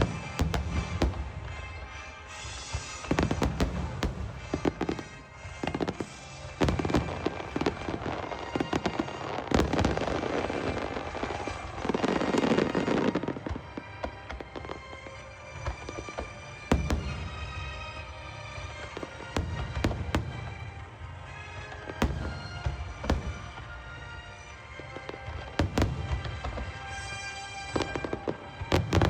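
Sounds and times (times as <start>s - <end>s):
fireworks bursting: 0.0s - 29.0s
fireworks crackling: 0.0s - 29.0s.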